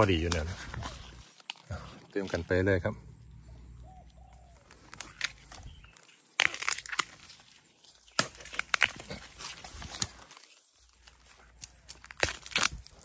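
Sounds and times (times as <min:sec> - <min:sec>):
dry bamboo leaves crackling: 0:00.0 - 0:02.8, 0:04.5 - 0:13.0.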